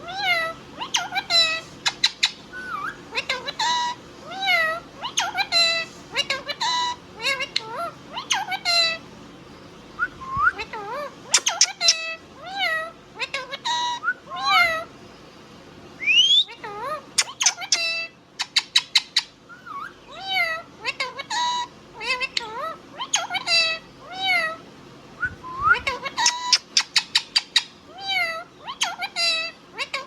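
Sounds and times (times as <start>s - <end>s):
parrot chirping and whistling: 0.0s - 9.0s, 10.0s - 12.7s, 13.4s - 14.9s, 16.0s - 16.6s, 17.2s - 24.5s, 25.2s - 30.0s.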